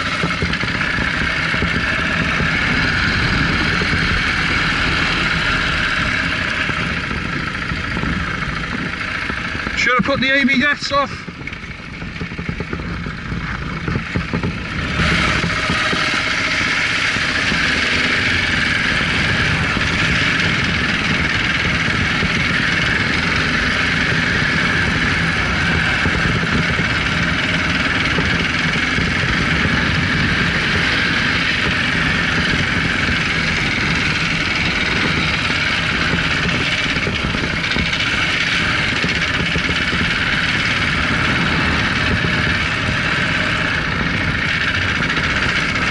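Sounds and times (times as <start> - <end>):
motorcycle engine riding: 0.0 - 45.9.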